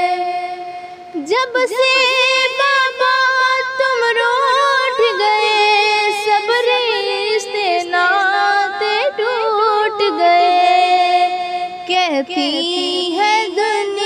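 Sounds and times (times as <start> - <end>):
woman singing mournfully: 1.2 - 14.0.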